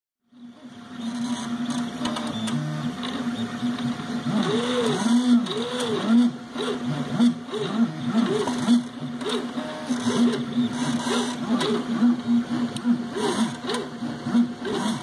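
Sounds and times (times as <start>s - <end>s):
steady hum: 0.3s - 15.0s
stepper motors whining: 0.3s - 15.0s.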